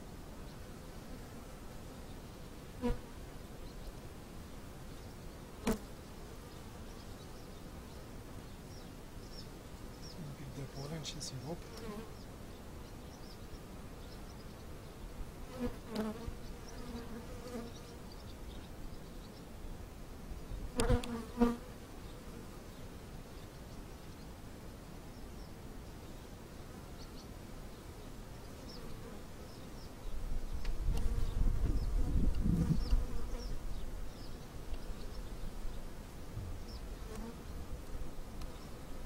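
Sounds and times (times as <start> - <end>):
honeybees buzzing: 0.5 - 18.7, 20.6 - 23.1, 26.6 - 39.0.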